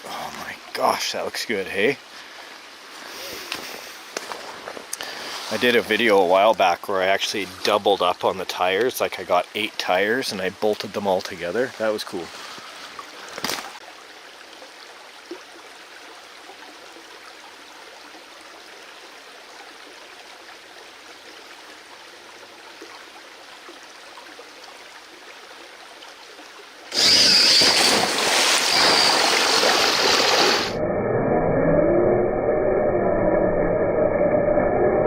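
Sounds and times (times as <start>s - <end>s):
creek water running: 0.0s - 30.8s.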